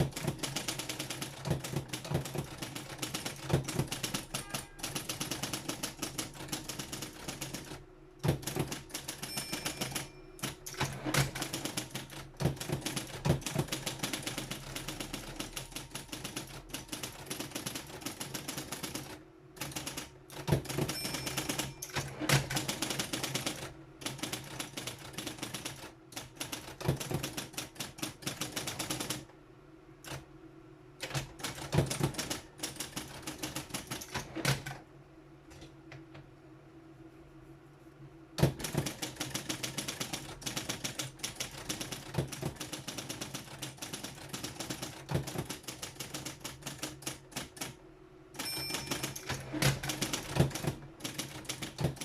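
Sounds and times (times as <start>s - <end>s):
typewriter keystrokes: 0.0s - 29.2s, 31.0s - 34.8s, 38.4s - 47.8s, 48.4s - 52.0s.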